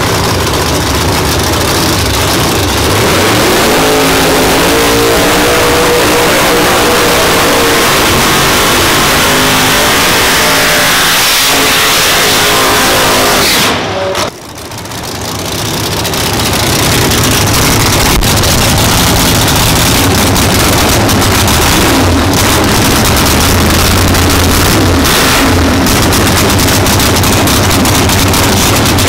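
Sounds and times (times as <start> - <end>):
car engine revving loudly: 0.0 - 14.4, 15.9 - 29.0.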